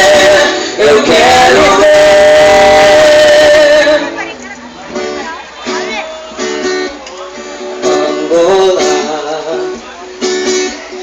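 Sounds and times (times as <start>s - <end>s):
person singing: 0.0s - 4.2s, 6.1s - 11.0s
acoustic guitar strumming: 0.0s - 11.0s.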